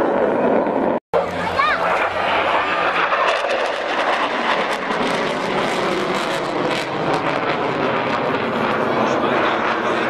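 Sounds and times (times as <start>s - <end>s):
fighter jet roaring overhead: 0.0s - 10.0s.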